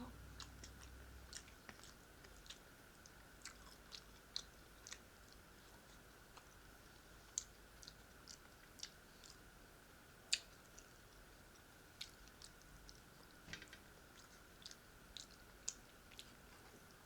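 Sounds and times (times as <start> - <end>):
person chewing food: 0.3 - 17.0.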